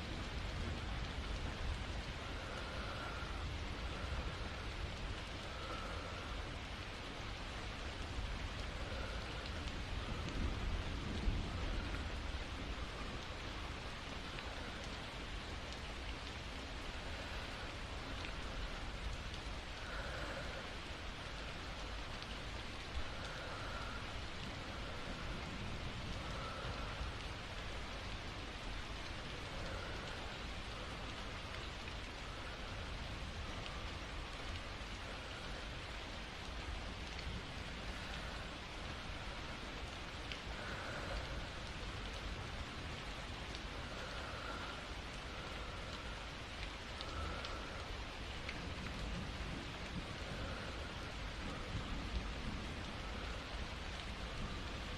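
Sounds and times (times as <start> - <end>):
soft slow breaths: 0.0 - 54.9
steady rainfall: 0.0 - 54.9.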